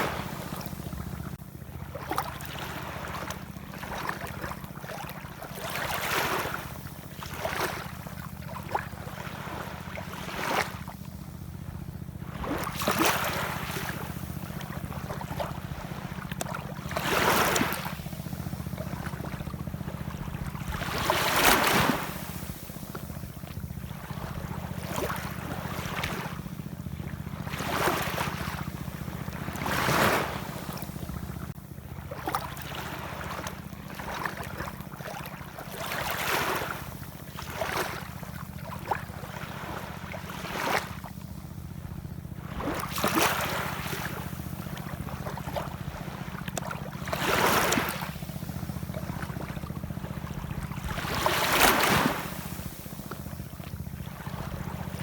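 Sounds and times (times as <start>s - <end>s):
steady low rumble: 0.0s - 5.7s, 6.6s - 35.0s, 41.0s - 55.0s
ocean waves washing in: 0.0s - 11.4s, 12.2s - 55.0s.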